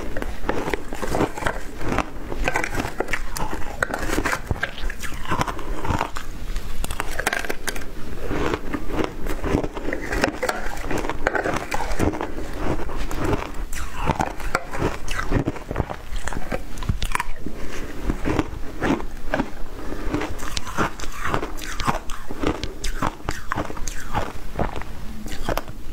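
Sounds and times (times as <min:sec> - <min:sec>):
chewing crunchy shaved ice: 0:00.0 - 0:25.9.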